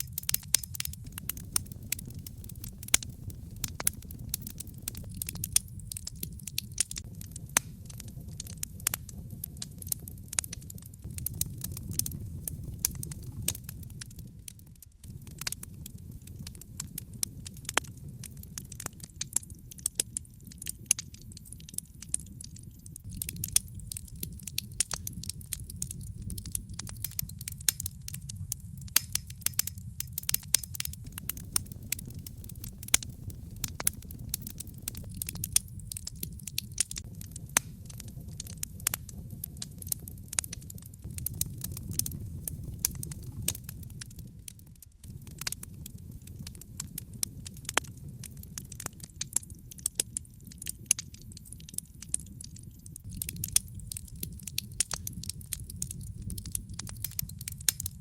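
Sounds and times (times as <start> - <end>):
logs crackling in a fireplace: 0.0 - 58.0.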